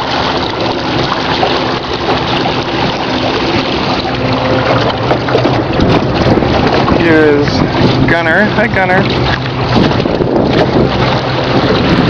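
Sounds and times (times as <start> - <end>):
steady low motor hum: 0.0 - 12.0
water splashing along boat hull: 0.0 - 12.0.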